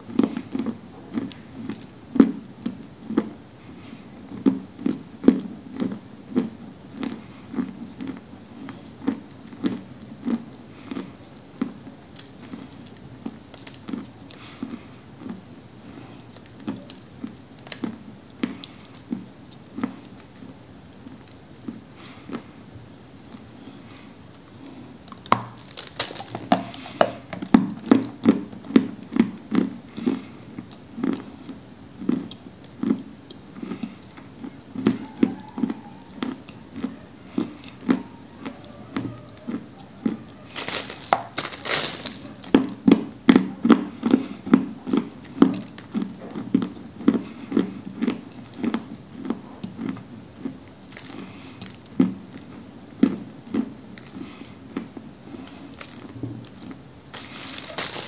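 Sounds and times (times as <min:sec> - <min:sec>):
crunchy chewing: 0:00.0 - 0:58.0
dry crunchy biting: 0:04.3 - 0:22.6, 0:23.2 - 0:58.0.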